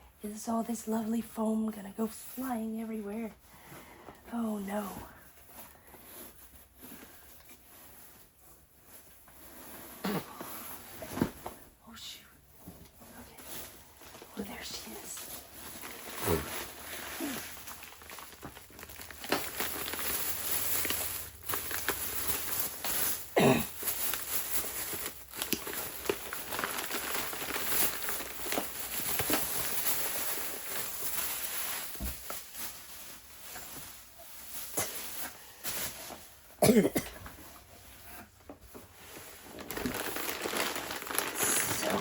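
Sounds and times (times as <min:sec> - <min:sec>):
foam packing rustling: 0:02.1 - 0:11.7, 0:13.2 - 0:42.0.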